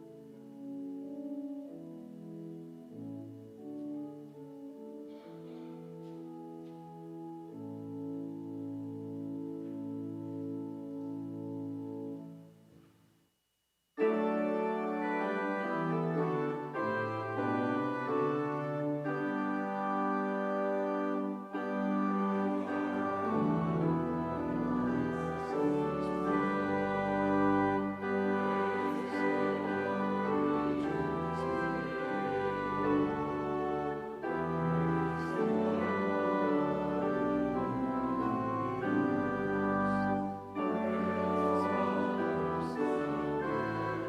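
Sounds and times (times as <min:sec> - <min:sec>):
organ playing chords: 0:00.0 - 0:12.7, 0:14.0 - 0:44.0.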